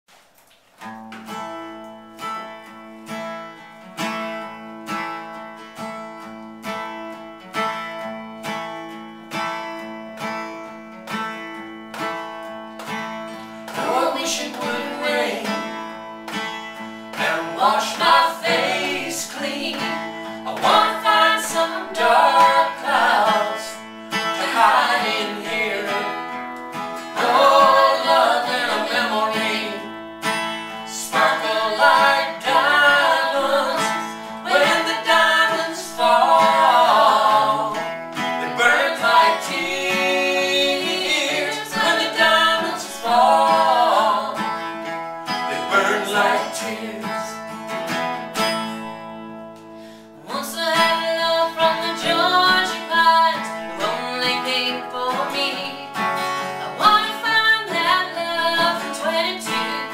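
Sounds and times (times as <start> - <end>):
acoustic guitar picked chords: 0.6 - 59.9.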